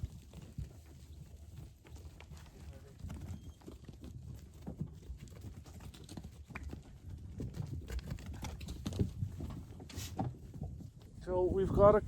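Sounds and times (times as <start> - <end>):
sheep hooves knocking and shuffling: 0.0 - 12.0.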